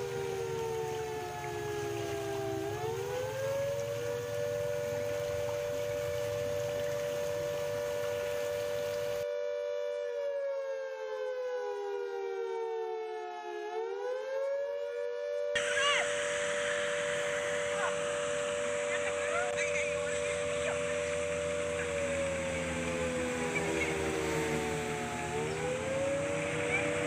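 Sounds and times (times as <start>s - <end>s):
warning siren wailing: 0.0s - 27.0s.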